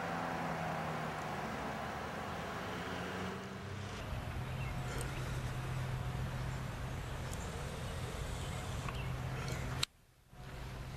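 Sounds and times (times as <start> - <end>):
wind: 0.0 - 10.9.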